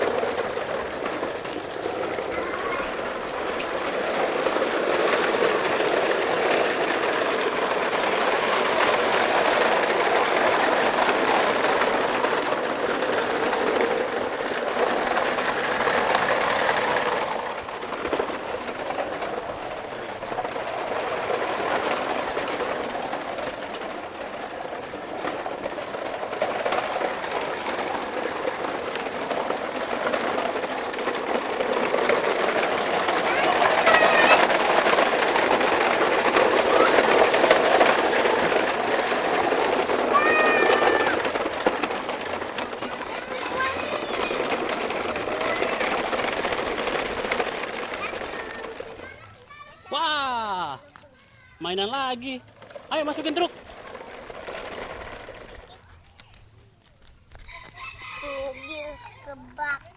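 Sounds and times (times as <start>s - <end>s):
plastic toy truck rattling: 0.0s - 59.9s.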